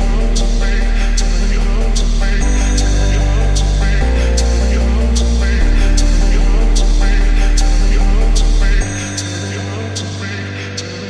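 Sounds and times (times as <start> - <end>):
background music with regular beat: 0.0 - 11.0
deep low note: 0.0 - 11.0.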